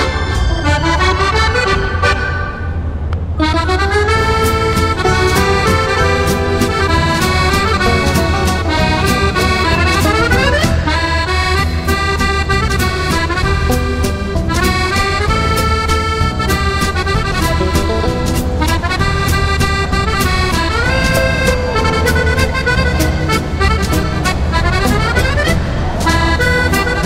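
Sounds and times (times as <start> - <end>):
accordion music: 0.0 - 27.0.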